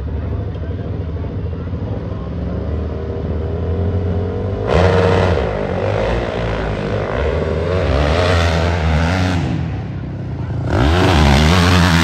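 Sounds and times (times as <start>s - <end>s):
engine running at high revs: 1.2s - 12.0s.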